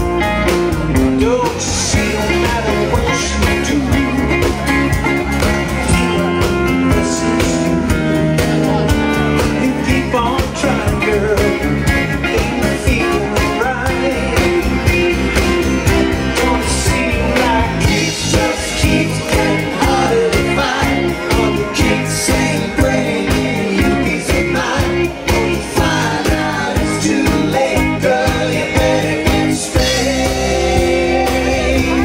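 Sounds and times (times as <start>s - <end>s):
guitar: 0.0s - 32.0s
person singing: 0.0s - 32.0s.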